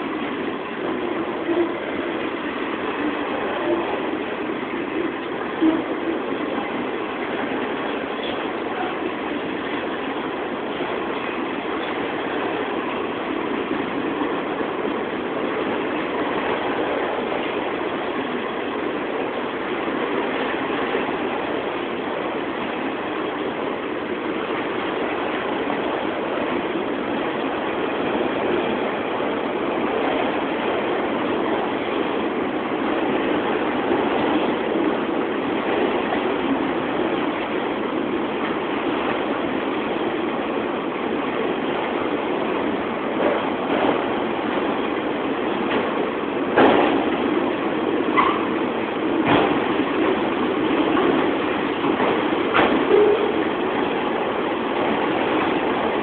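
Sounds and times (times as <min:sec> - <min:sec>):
train wheels running on rails: 0:00.0 - 0:56.0.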